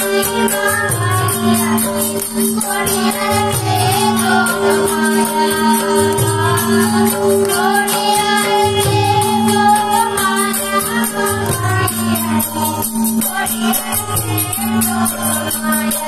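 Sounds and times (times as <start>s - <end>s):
person singing devotional melody: 0.0s - 16.0s
quick percussion beat: 0.0s - 16.0s.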